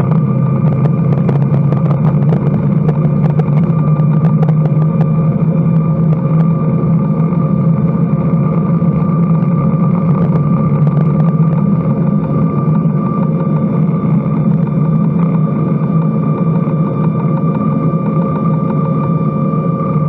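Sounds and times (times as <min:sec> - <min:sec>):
jet airliner cabin drone: 0:00.0 - 0:20.0.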